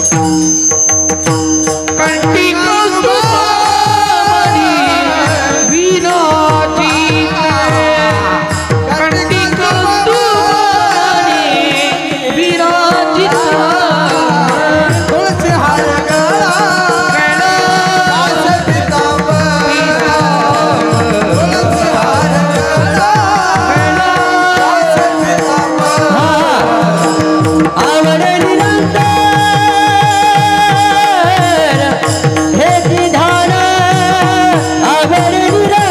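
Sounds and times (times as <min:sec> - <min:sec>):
tabla playing fast rhythm: 0:00.0 - 0:35.9.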